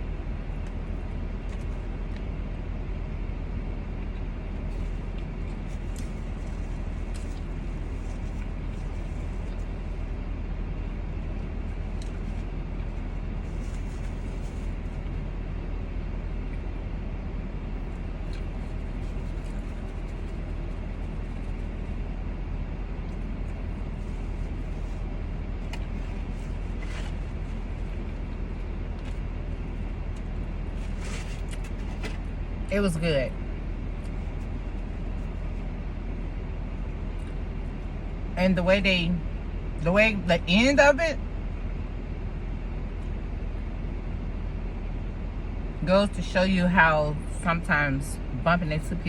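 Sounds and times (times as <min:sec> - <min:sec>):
car cabin hum: 0:00.0 - 0:49.0.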